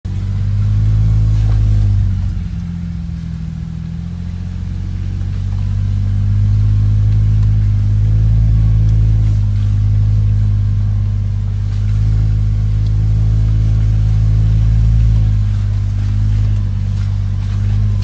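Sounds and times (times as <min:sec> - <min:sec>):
engine drone inside cab: 0:00.0 - 0:18.0.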